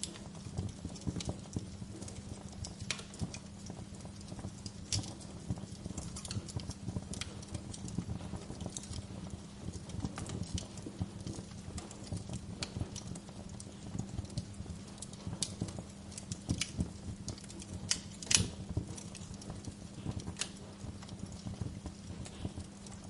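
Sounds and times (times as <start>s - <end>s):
steady low hum: 0.0s - 23.0s
wood fire crackling and popping: 0.0s - 23.0s.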